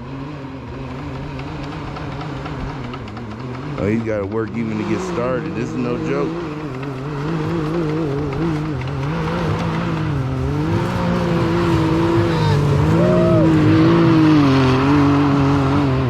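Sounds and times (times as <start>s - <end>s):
utility vehicle engine revving under load: 0.0s - 16.0s.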